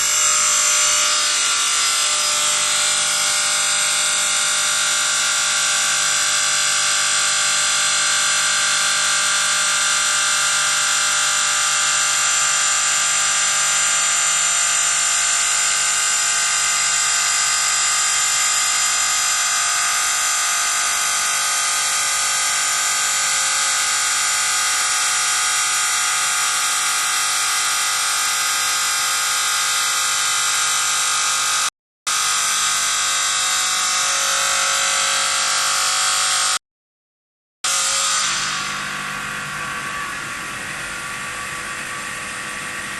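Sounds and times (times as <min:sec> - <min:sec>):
saw blade cutting stone: 0:00.0 - 0:36.6, 0:37.6 - 0:42.9.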